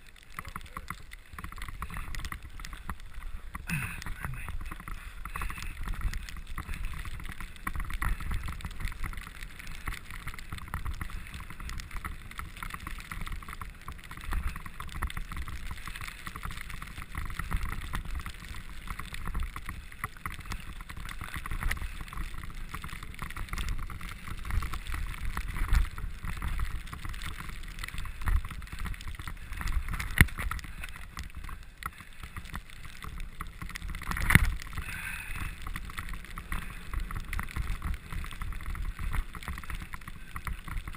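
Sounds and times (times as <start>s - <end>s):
bicycle tyres rumbling on snow: 0.0s - 40.9s
bike rattling and clattering: 0.0s - 40.9s.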